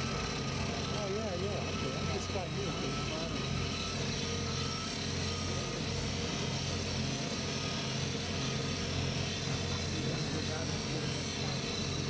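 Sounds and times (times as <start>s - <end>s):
abrasive saw cutting steel rail: 0.0s - 12.0s.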